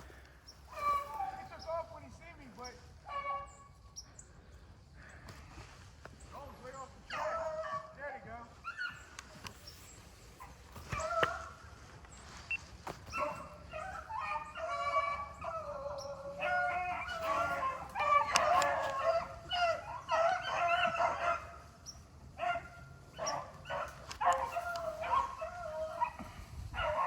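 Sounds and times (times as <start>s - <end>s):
hounds baying: 0.0s - 27.0s.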